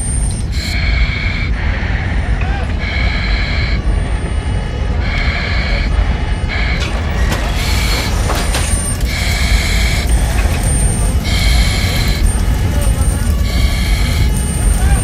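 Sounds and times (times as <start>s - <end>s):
smoke alarm beeping: 0.0s - 1.2s, 2.8s - 15.0s
steady low rumble: 0.0s - 15.0s.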